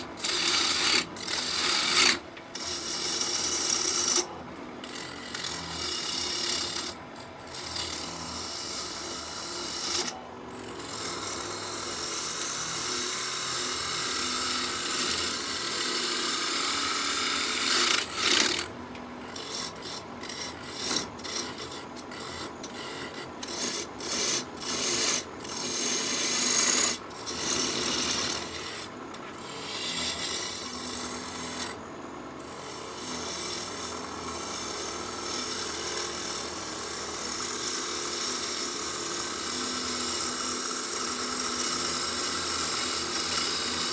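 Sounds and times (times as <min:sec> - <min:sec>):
lathe gouge scraping wood: 0:00.0 - 0:31.8, 0:32.4 - 0:43.9.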